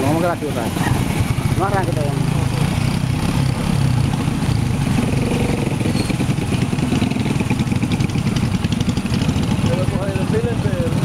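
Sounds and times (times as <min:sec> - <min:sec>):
small motorcycles passing: 0:00.0 - 0:11.0.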